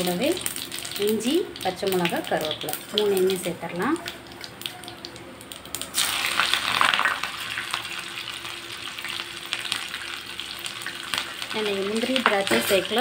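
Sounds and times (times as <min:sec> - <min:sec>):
hot oil sizzling and crackling: 0:00.0 - 0:13.0.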